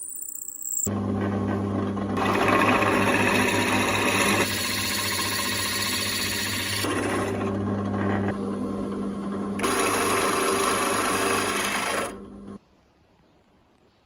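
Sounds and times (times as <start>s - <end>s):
power tool motor running: 0.9s - 12.6s.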